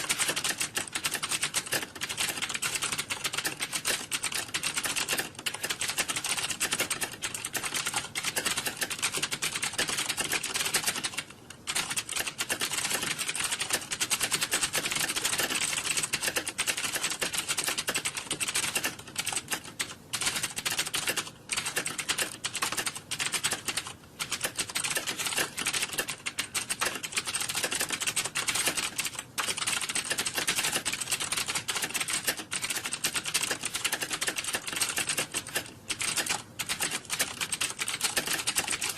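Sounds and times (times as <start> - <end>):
fast typing on computer keyboard: 0.0 - 38.9.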